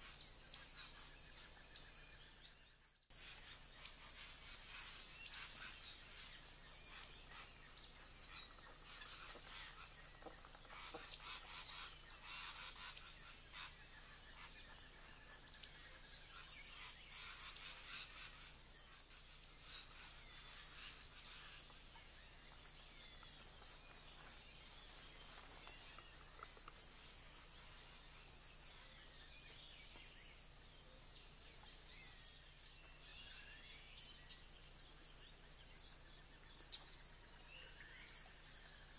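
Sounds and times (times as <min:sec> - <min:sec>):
high-pitched insect drone: 0:03.2 - 0:38.9.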